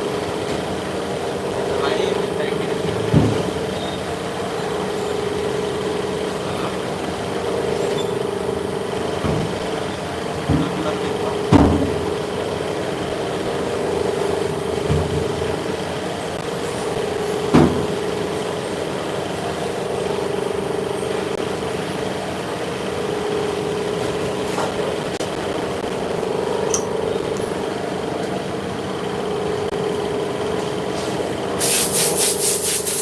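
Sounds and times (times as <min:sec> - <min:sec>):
workshop machinery humming: 0:00.0 - 0:33.0.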